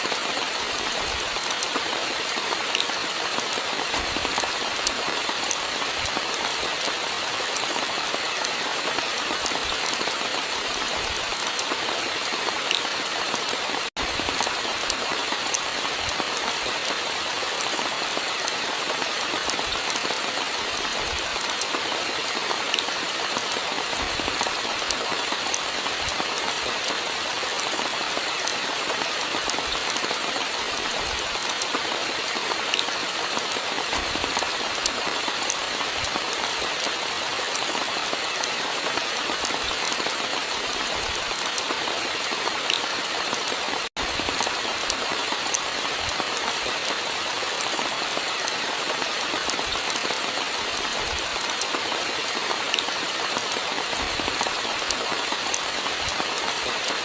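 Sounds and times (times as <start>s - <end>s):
raindrops ticking on a surface: 0.0s - 57.0s
steady rainfall: 0.0s - 57.0s.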